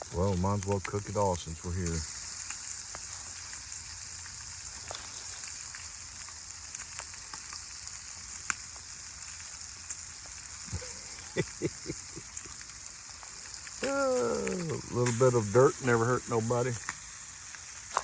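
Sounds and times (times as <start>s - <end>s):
meat sizzling in a skillet: 0.0s - 18.0s.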